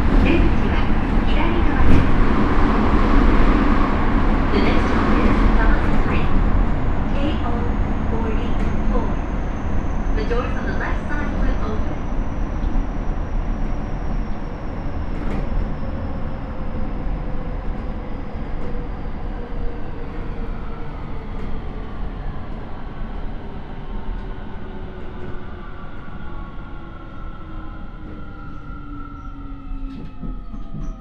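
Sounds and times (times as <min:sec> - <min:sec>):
wheel and rail rumble: 0:00.0 - 0:31.0.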